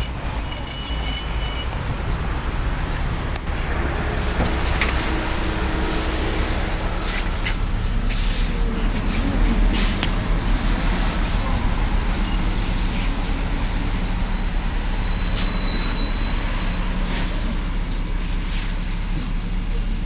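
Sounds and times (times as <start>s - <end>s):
bus engine low hum: 0.0s - 20.0s.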